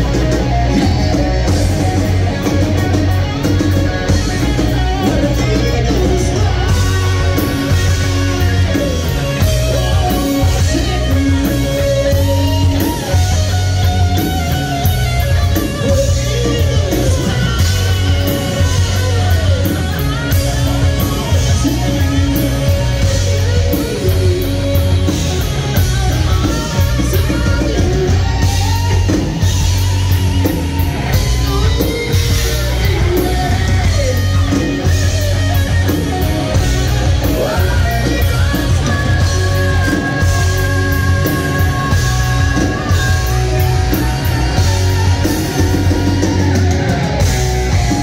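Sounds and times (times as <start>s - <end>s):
bass guitar: 0.0s - 48.0s
drums: 0.0s - 48.0s
electric guitar: 0.0s - 48.0s
person singing: 0.0s - 48.0s.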